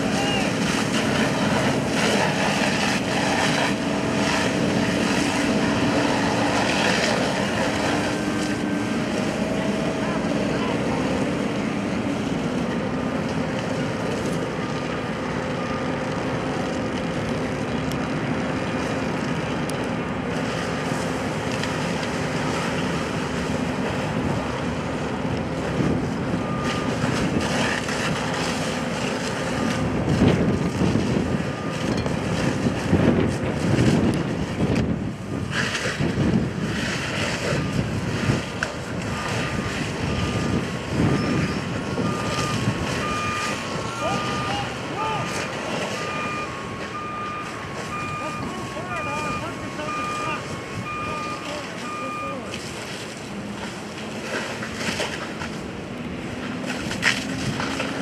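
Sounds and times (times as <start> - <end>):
fire hose water spraying: 0.0 - 58.0
truck engine running: 0.0 - 58.0.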